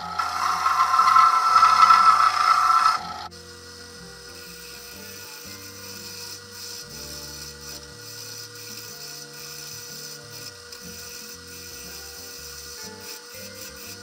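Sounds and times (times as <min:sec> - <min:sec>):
turning tool scraping wood: 0:00.0 - 0:03.4, 0:04.2 - 0:14.0
faint background music: 0:00.0 - 0:14.0
wood lathe motor whine: 0:00.0 - 0:14.0.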